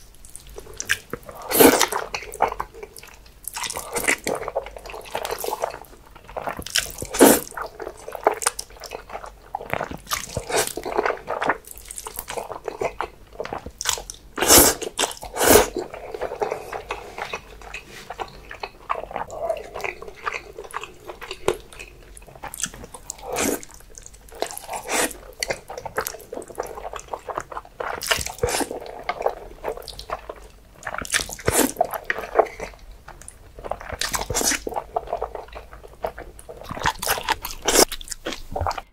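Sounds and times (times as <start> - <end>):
noodles slurped and chewed: 0.3 - 38.9
wet mouth sounds: 6.4 - 38.9.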